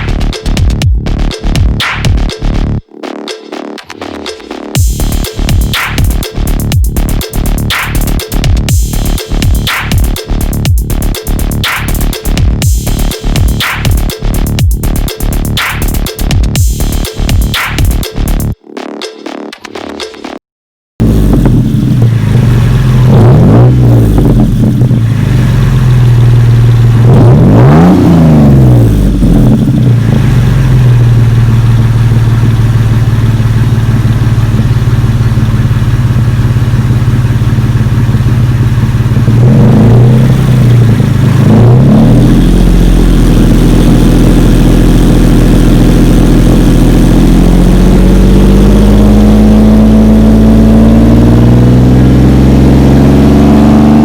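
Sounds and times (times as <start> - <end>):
engine exhaust idling and revving: 0.0 - 2.8, 4.8 - 18.6, 21.0 - 54.0.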